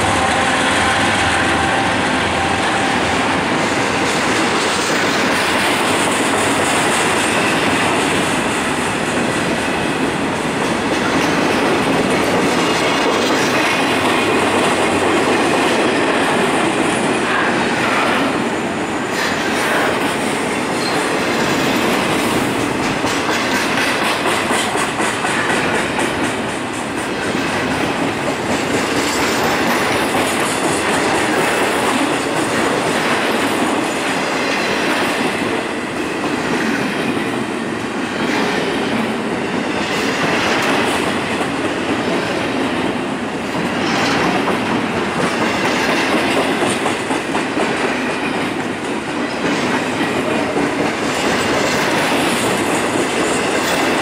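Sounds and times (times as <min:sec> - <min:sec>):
freight train wheels rumbling on rail: 0:00.0 - 0:54.0
clickety-clack over rail joints: 0:02.4 - 0:54.0.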